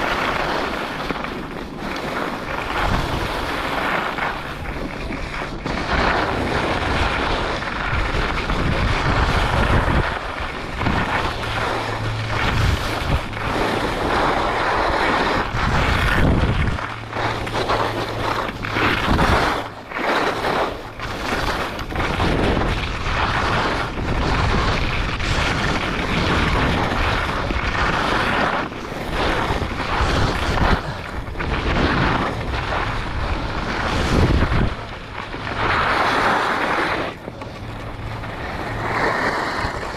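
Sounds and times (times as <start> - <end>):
skis scraping on snow: 0.0 - 39.9
wind rushing over microphone: 0.0 - 39.9.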